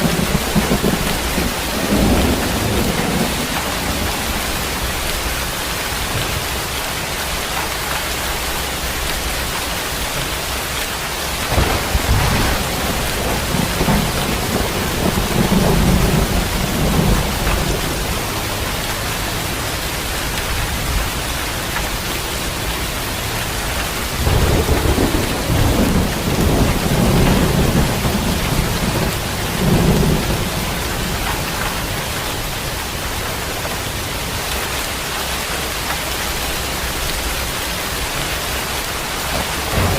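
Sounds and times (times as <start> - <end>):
thunder rumbling: 0.0 - 7.5, 11.2 - 34.5, 36.3 - 39.9
heavy rain: 0.0 - 39.9.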